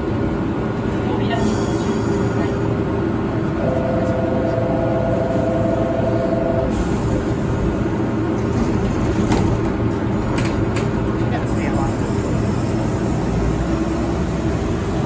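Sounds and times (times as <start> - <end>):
tram humming: 0.0 - 15.0.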